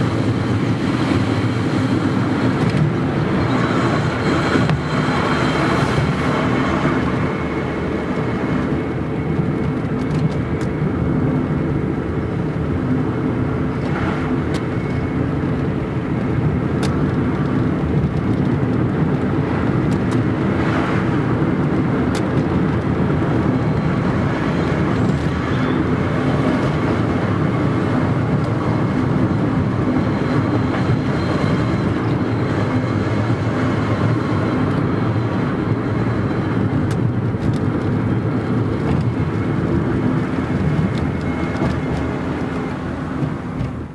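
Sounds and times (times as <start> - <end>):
car engine whirring: 0.0 - 43.9.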